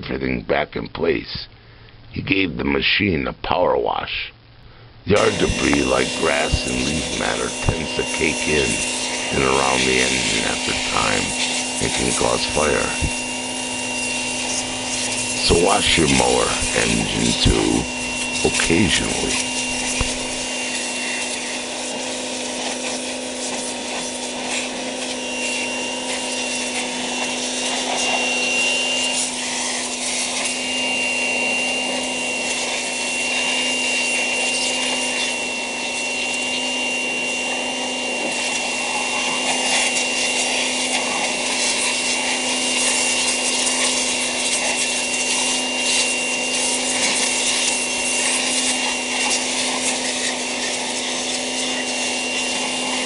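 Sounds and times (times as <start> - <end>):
pressure washer motor hum: 4.7 - 53.0
water jet hissing: 5.1 - 53.0.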